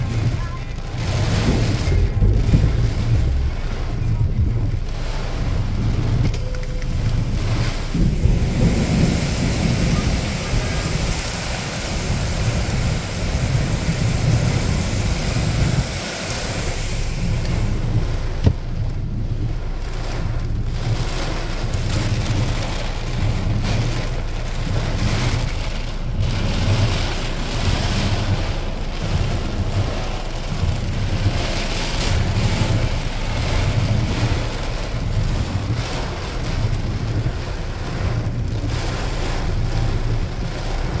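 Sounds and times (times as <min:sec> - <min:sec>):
heavy rain pelting car: 0:00.0 - 0:41.0
moving car: 0:00.0 - 0:41.0
wind rumble: 0:00.0 - 0:41.0.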